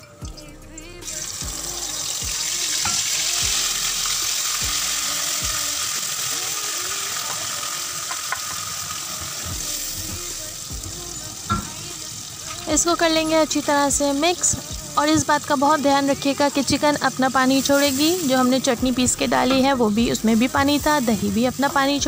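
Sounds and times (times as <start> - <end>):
chicken sizzling in hot oil: 1.0 - 22.0.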